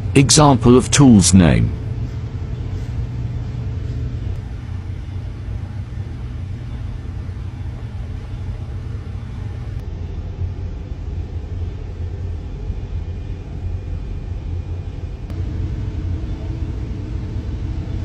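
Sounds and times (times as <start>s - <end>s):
engine room machinery drone: 0.0s - 18.0s
faint hum: 0.0s - 18.0s.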